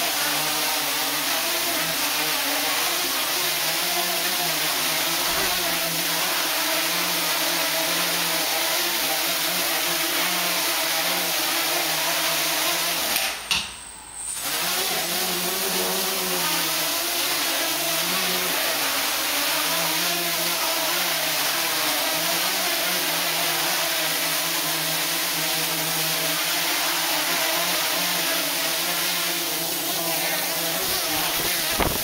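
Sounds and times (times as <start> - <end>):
quadcopter motors buzzing: 0.0 - 13.5, 14.3 - 32.0.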